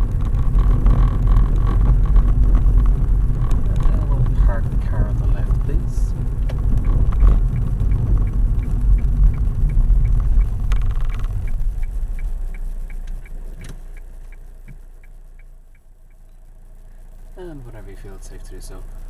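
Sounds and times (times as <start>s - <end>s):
turn indicator clicking: 0.0s - 17.4s
car engine and road noise: 0.0s - 19.0s.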